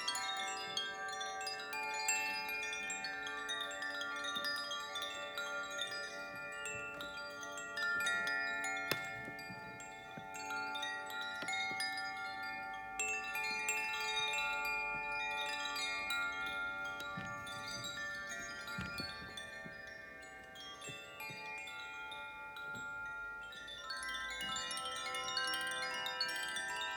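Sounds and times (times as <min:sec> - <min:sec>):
wind chime ringing: 0:00.0 - 0:26.9.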